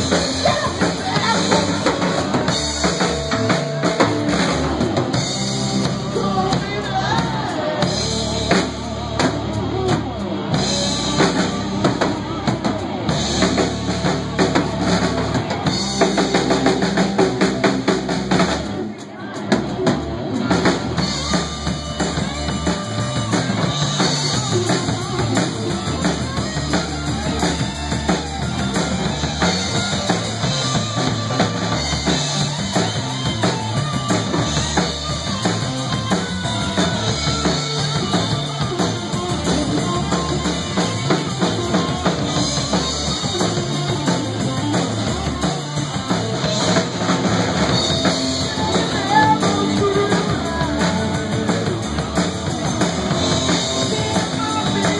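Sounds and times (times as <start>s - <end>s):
drum kit: 0.0s - 54.9s
electric guitar: 0.0s - 54.9s.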